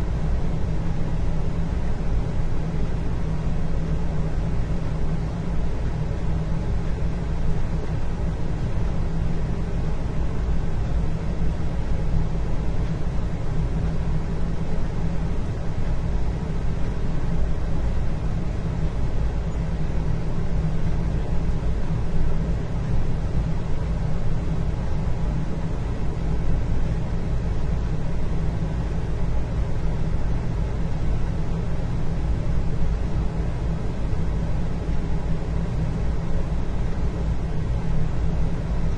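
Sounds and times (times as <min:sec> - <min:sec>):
low rumble and hum: 0:00.0 - 0:38.9.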